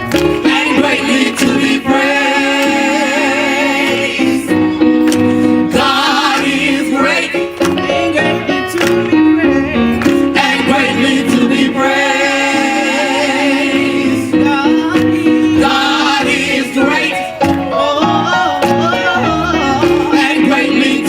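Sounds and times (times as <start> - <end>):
gospel choir singing: 0.0 - 21.0
instrumental accompaniment: 0.0 - 21.0.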